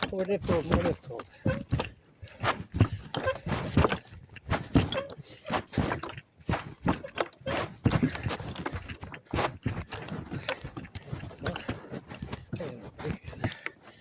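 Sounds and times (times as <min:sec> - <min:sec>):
knocks thuds and rustling: 0:00.0 - 0:13.6.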